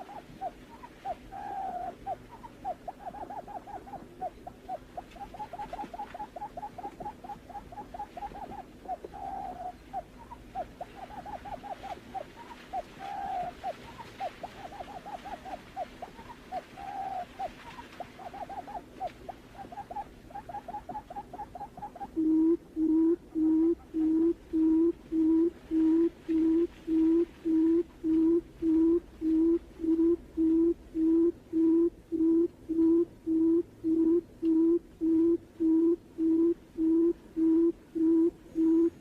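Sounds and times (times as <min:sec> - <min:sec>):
buttonquail calling: 0:00.0 - 0:39.0.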